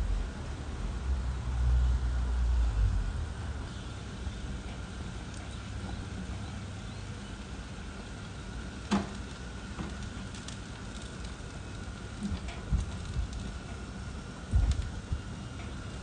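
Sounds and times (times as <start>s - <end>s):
gas burner rushing: 2.2s - 16.0s
fat crackling in flame: 2.4s - 16.0s.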